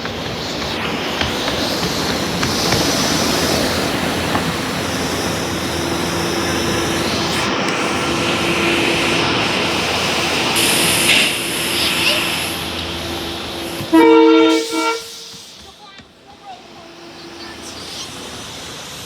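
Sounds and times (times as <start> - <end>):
electric train rushing by: 0.0 - 19.0.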